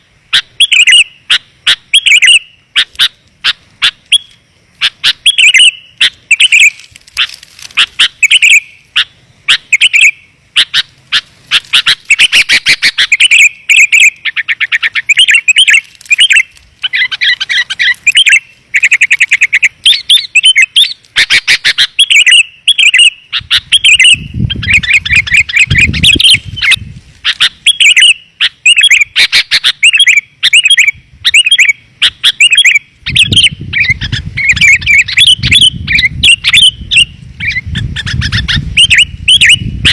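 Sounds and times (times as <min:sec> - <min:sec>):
bird chirping and warbling: 0:00.0 - 0:39.9.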